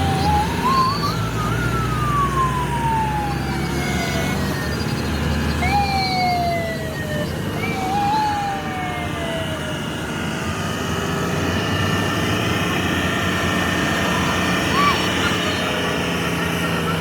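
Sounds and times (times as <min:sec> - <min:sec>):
low traffic rumble: 0:00.0 - 0:17.0
siren wailing: 0:00.0 - 0:17.0.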